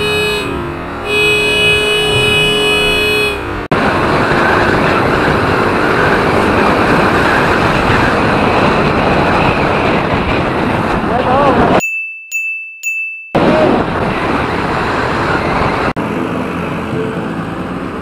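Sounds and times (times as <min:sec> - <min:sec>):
wind rush and riding noise: 0:00.0 - 0:11.9, 0:13.4 - 0:18.0.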